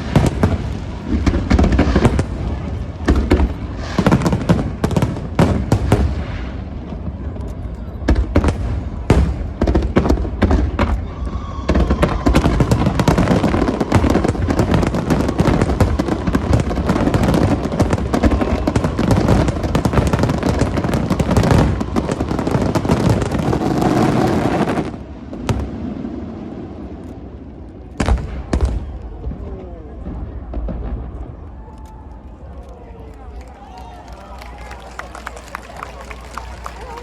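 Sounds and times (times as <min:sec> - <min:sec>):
fireworks bursting: 0:00.0 - 0:32.1, 0:34.0 - 0:37.0.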